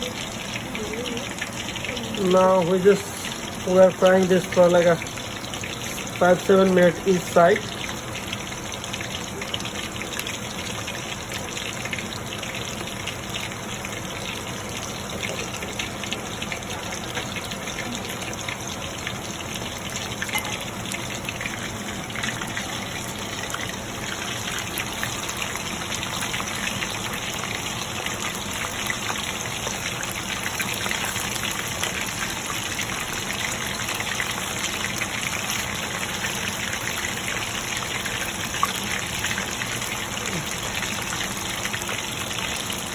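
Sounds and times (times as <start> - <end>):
food deep-frying in oil: 0.0 - 42.9.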